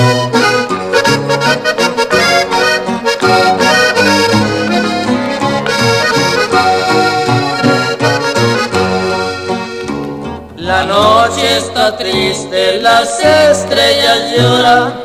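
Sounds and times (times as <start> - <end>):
alternating bass rhythm: 0.0 - 12.4
button accordion melody: 0.0 - 15.0.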